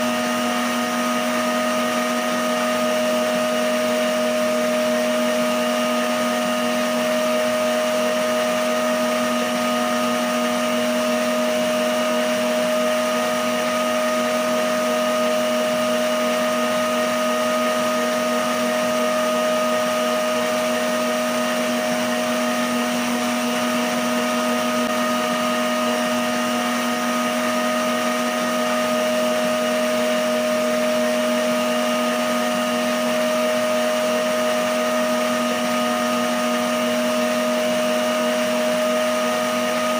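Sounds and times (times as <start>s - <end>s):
stand mixer motor whine: 0.0s - 39.9s.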